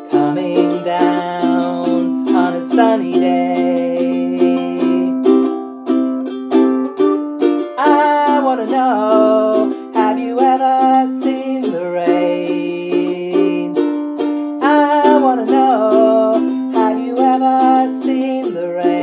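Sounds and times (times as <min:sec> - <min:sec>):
woman singing: 0:00.0 - 0:05.4, 0:07.7 - 0:19.0
ukulele strumming chords: 0:00.0 - 0:19.0.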